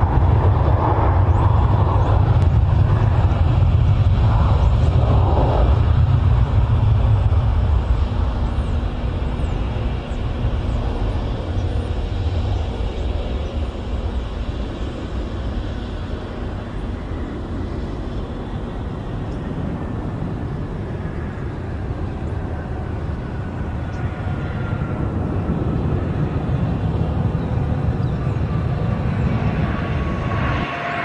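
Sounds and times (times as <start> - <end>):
jet engine rumble: 0.0 - 31.0
turbine whine falling in pitch: 0.0 - 31.0.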